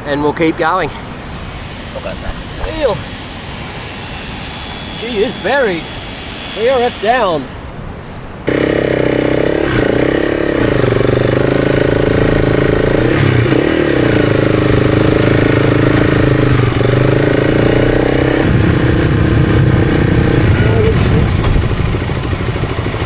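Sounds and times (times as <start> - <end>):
motorcycle engine running: 2.4 - 23.0.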